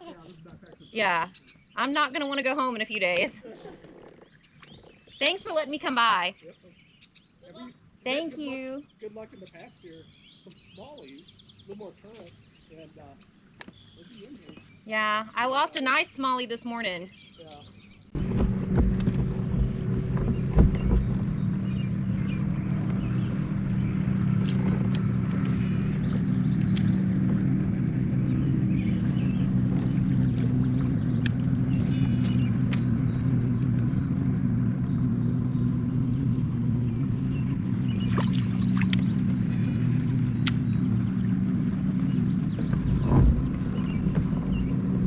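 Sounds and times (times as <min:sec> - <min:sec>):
boat motor humming: 0:00.0 - 0:45.0.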